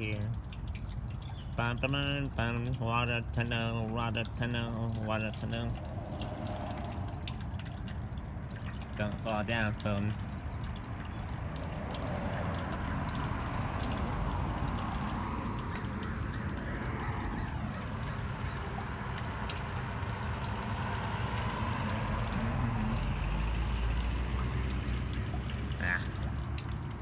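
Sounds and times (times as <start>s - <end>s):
water trickling in storm drain: 0.0s - 27.0s.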